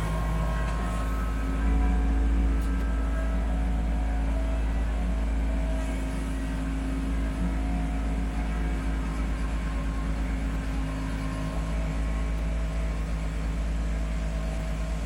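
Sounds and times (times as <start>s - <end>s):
diesel tractor engine running: 0.0s - 15.0s
faint hydraulic whine: 0.0s - 15.0s.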